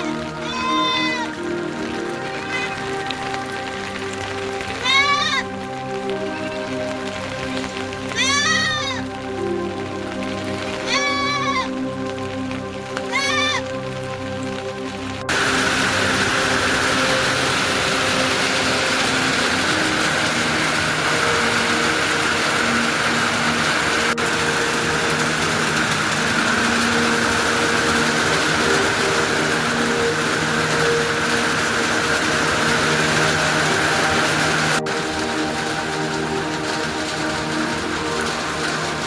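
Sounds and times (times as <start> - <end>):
heavy rain hissing: 0.0 - 39.0
soft music of held notes: 0.0 - 39.0.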